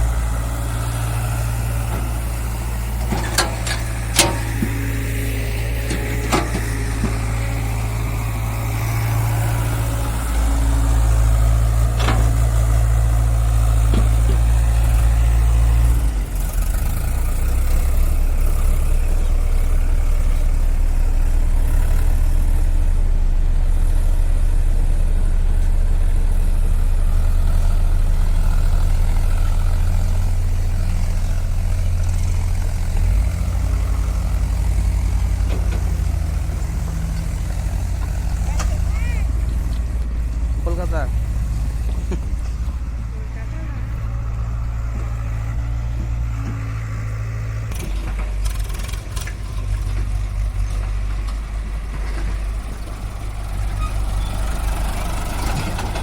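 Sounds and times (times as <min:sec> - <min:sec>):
diesel machinery engine droning: 0:00.0 - 0:56.0.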